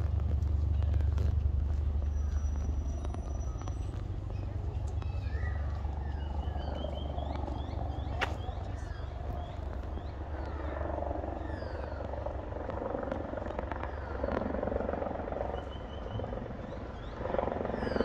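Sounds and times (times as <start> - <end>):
birds chirping: 0.0 - 18.0
wind buffeting microphone: 0.0 - 18.0.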